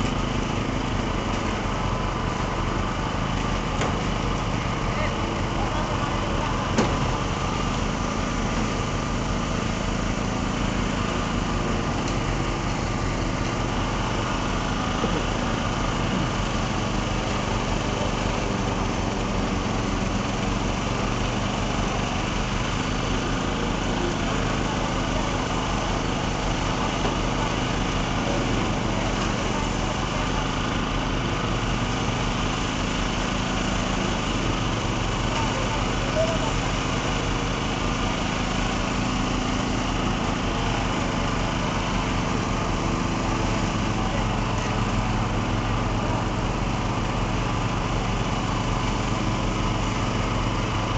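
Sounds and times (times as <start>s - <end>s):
machinery engine droning: 0.0s - 50.9s.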